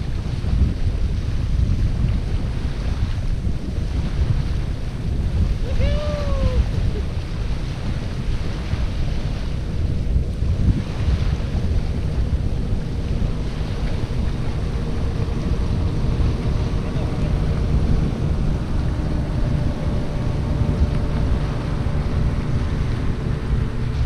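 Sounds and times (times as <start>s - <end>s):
gentle surf: 0.0s - 24.0s
motorboat engine hum: 0.0s - 24.0s
wind buffeting microphone: 0.0s - 24.0s.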